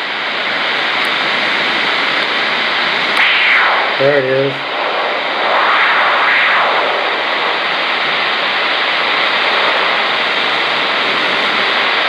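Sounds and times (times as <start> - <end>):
radio static hiss: 0.0 - 12.0
radio interference whoosh: 1.2 - 12.0.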